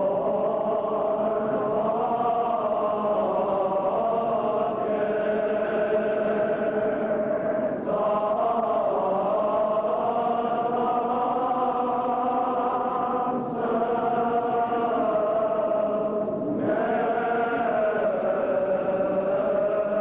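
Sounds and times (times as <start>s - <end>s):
voices chanting long notes: 0.0s - 20.0s.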